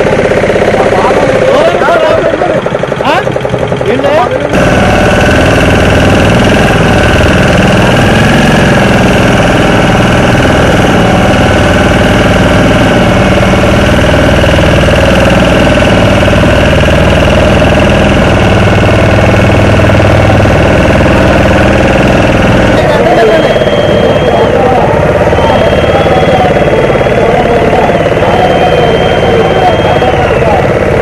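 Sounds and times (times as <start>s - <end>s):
motor running steadily: 0.0s - 31.0s.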